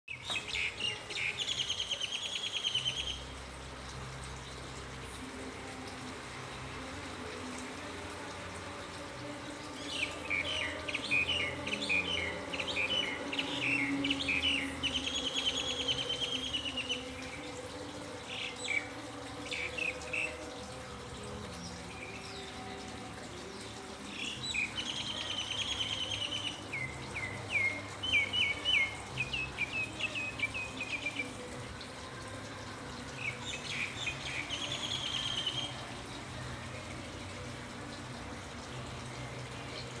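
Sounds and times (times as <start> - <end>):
songbirds trilling and chirping: 0.1 - 8.2, 8.9 - 40.0.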